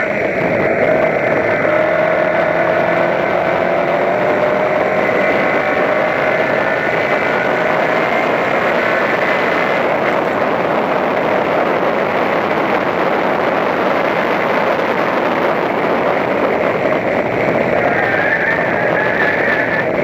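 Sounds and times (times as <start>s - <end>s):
race car engine under load: 0.0s - 20.0s
wind and road noise: 0.0s - 20.0s.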